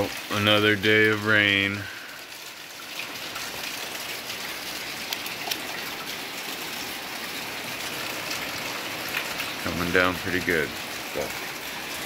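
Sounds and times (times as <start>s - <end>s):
sharp raindrop taps: 0.0s - 6.9s, 7.8s - 11.6s
heavy rain on gravel: 0.0s - 12.0s.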